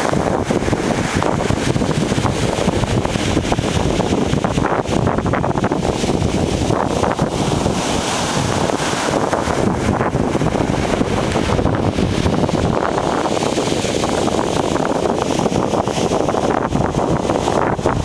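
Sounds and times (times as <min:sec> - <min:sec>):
ocean surf washing ashore: 0:00.0 - 0:18.0
wind buffeting microphone: 0:00.0 - 0:18.0.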